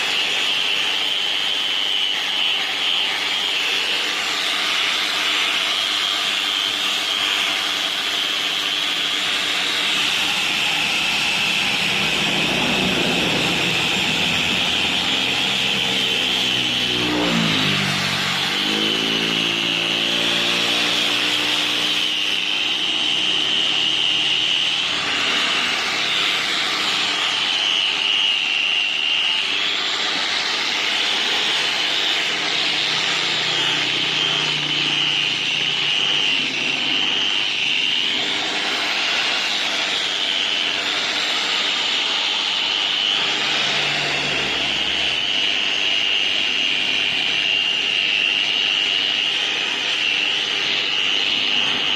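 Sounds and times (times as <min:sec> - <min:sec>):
angle grinder whine: 0:00.0 - 0:51.9.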